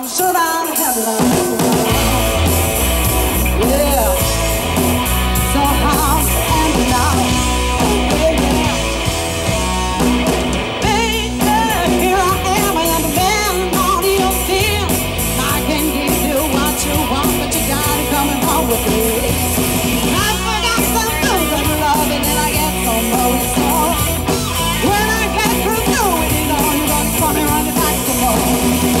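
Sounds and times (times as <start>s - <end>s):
woman singing: 0.0s - 2.2s, 3.4s - 4.6s, 5.5s - 8.8s, 10.8s - 19.4s, 20.1s - 28.8s
drum kit: 0.0s - 29.0s
electric guitars: 0.0s - 29.0s
bass guitar: 1.2s - 29.0s.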